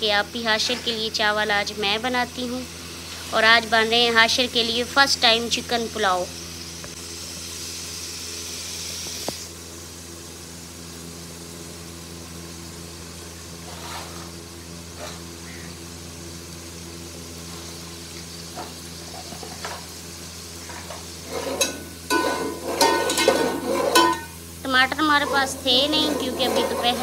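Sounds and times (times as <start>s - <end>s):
onions sizzling in oil: 0.0s - 27.0s
steady low hum: 0.0s - 27.0s.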